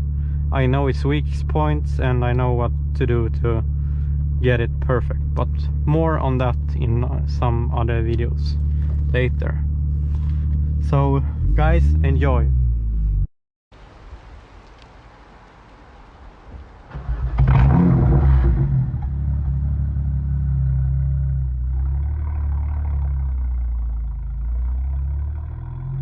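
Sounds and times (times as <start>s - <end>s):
car engine idling: 0.0s - 12.4s, 16.3s - 26.0s
car engine starting and revving: 0.0s - 13.3s, 16.8s - 26.0s.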